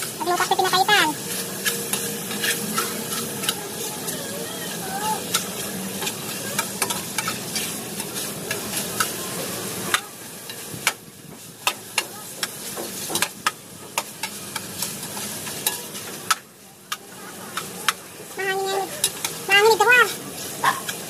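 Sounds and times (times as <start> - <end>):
food sizzling in saucepan: 0.0 - 21.0.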